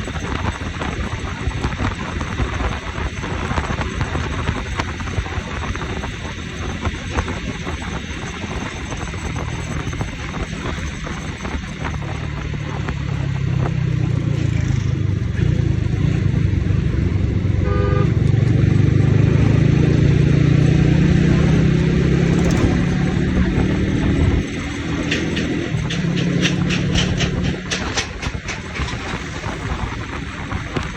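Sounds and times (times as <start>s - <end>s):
motorcycle engine running: 0.0s - 30.9s
wind and road noise: 0.0s - 30.9s.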